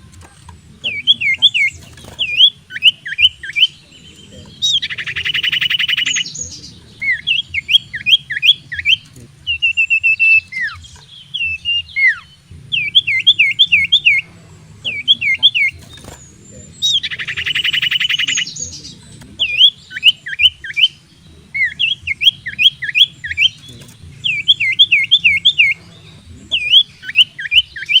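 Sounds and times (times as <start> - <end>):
bird singing: 0.0 - 28.0
faint low hum: 0.0 - 28.0.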